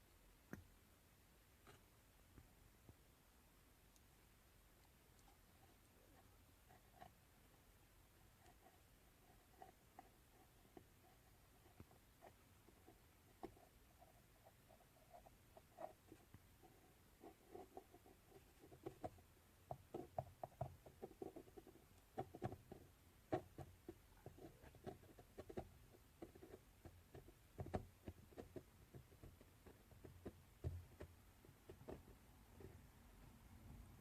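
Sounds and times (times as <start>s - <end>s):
small clicks and scraping taps: 0.5s - 0.7s, 1.6s - 3.0s, 3.9s - 4.1s, 4.7s - 32.8s.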